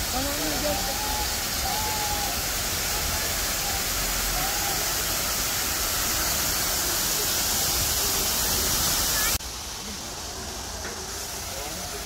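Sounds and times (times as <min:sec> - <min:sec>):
faint voices: 0:00.0 - 0:12.0
waterfall splashing into pool: 0:00.0 - 0:12.0.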